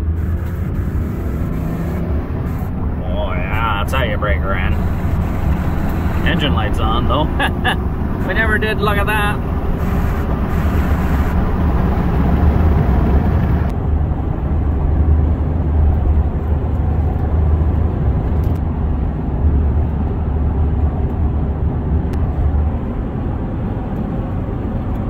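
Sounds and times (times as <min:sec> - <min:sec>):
engine drone and road noise: 0:00.0 - 0:25.0.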